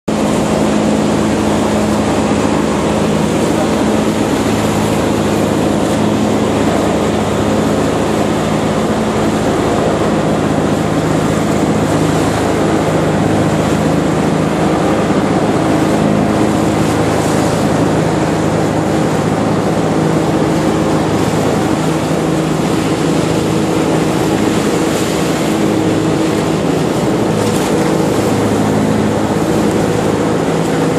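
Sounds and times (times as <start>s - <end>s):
boat engine drone: 0.1s - 30.9s
water noise: 0.1s - 30.9s
wind noise: 0.1s - 30.9s.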